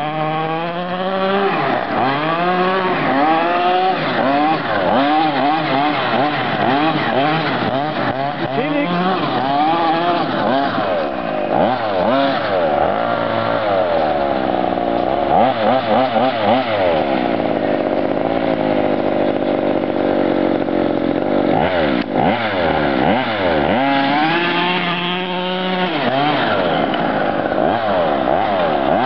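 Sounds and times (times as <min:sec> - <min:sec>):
small two-stroke engine revving: 0:00.0 - 0:29.0.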